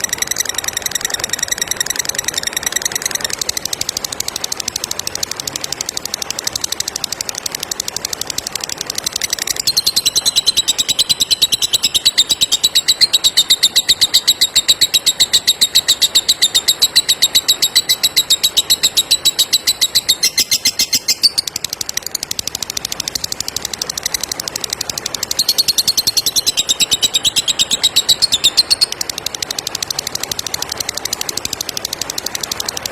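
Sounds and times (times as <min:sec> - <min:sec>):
lovebird high-pitched chatter: 0:00.0 - 0:32.9.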